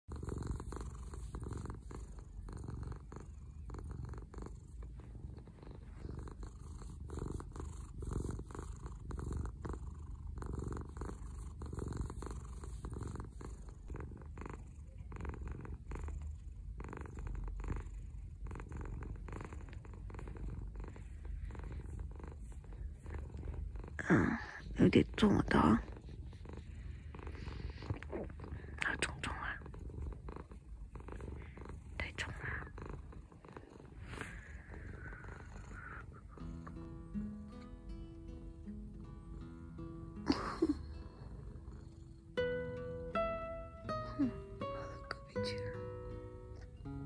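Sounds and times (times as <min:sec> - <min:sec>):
cat purring: 0:00.0 - 0:47.0.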